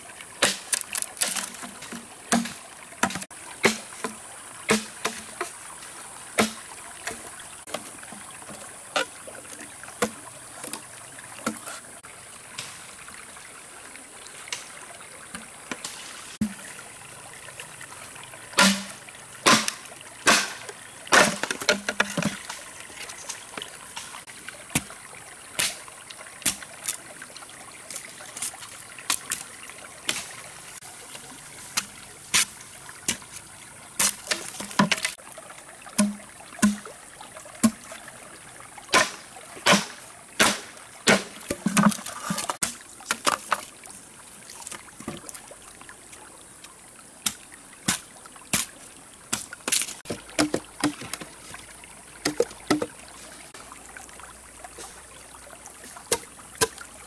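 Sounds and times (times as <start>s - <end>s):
water splashing and dribbling: 0.0s - 57.0s.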